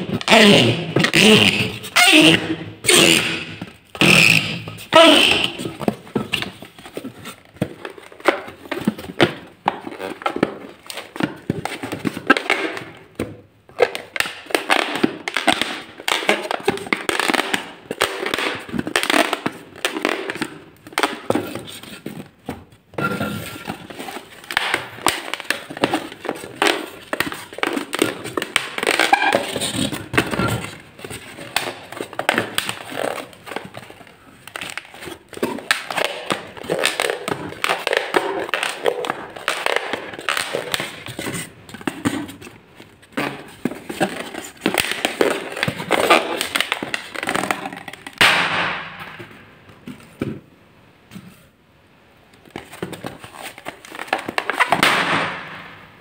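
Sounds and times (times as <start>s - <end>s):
rubber balloons squeaking and creaking: 0.0s - 48.3s, 53.0s - 55.7s.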